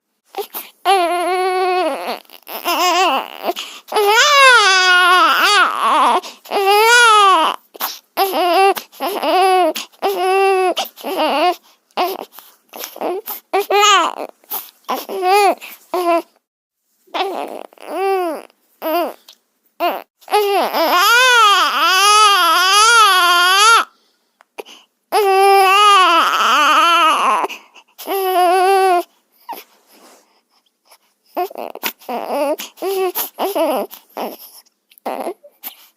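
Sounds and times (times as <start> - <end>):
baby crying: 0.3 - 16.4, 17.1 - 23.9, 25.1 - 29.7, 31.3 - 35.7.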